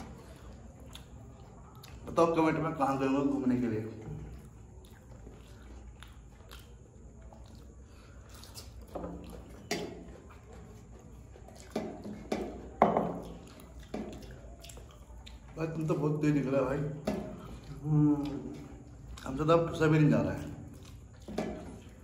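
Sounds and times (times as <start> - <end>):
quiet chewing: 0.0 - 22.0.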